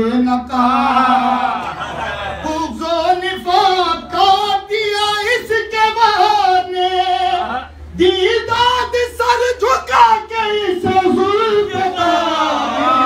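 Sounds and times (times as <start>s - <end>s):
man singing unaccompanied: 2.4s - 13.0s.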